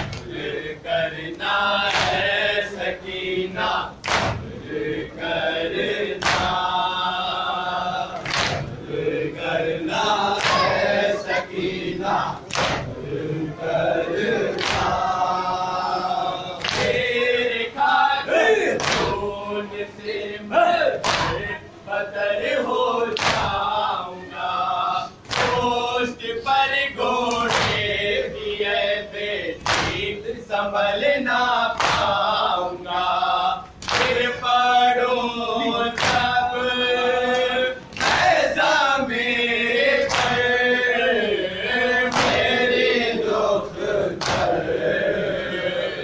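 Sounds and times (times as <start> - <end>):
men chanting in unison: 0.0 - 46.0.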